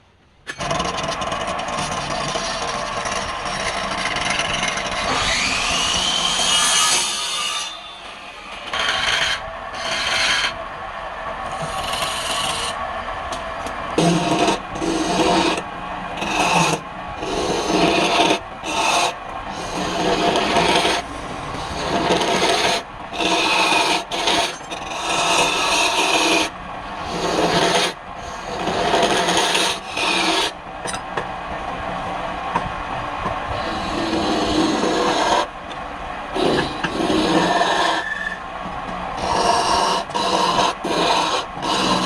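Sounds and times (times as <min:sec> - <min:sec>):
tool rasping on spinning wood: 0:00.6 - 0:07.8, 0:08.6 - 0:10.6, 0:11.5 - 0:12.8, 0:14.0 - 0:31.0, 0:33.5 - 0:35.6, 0:36.3 - 0:38.4, 0:39.2 - 0:42.0.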